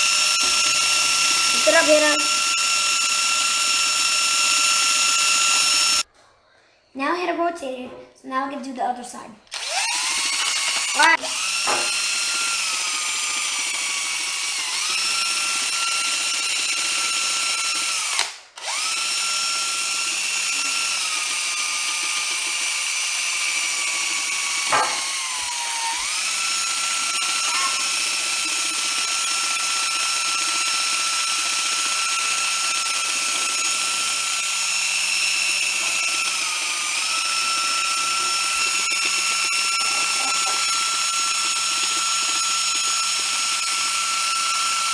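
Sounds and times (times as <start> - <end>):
power drill with wire brush: 0.0 - 6.1, 9.5 - 44.9.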